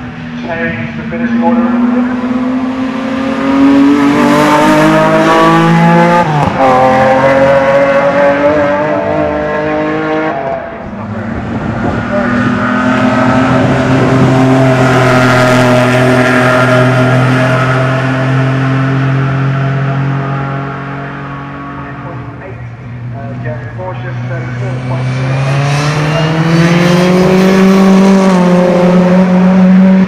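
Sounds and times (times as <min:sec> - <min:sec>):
race car engines at full throttle: 0:00.0 - 0:30.0.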